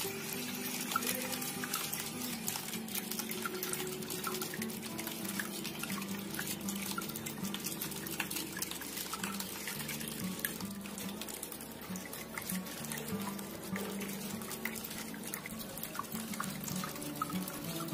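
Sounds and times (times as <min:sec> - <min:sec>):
fountain water trickling and splashing: 0:00.0 - 0:17.9
soft slow background music: 0:00.0 - 0:17.9.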